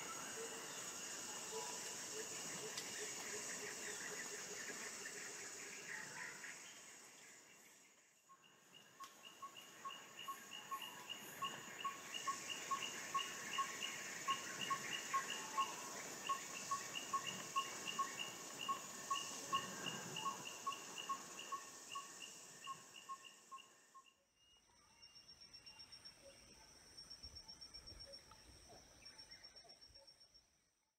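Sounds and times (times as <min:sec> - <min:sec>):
insect hiss: 0:00.0 - 0:30.7.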